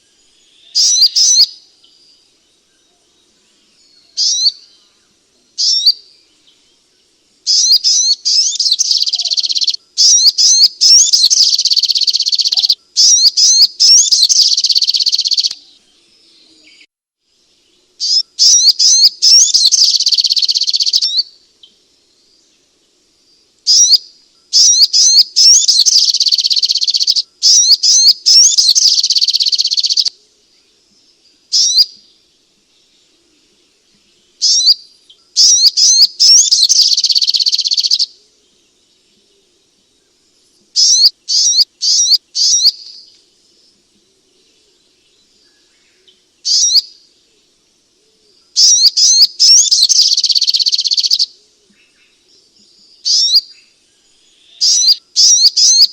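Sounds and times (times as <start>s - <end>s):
bird twittering chirps: 0.0s - 16.9s, 17.6s - 55.9s.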